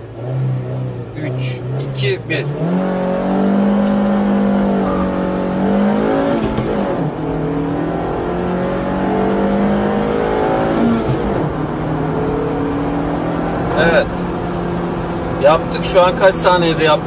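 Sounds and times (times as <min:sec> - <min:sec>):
car engine at full throttle: 0:00.0 - 0:17.0.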